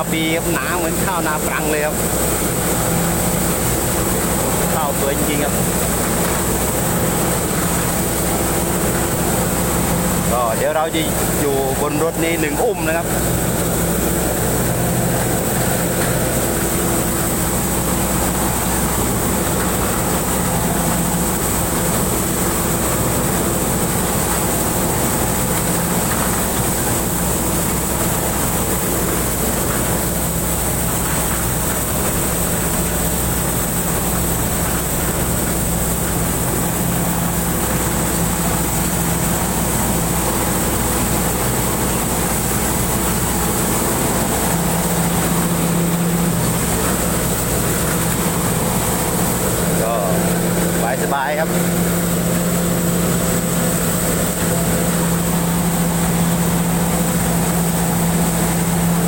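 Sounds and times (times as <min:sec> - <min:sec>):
harvester engine drone: 0:00.0 - 0:59.0
high whine: 0:00.0 - 0:59.0.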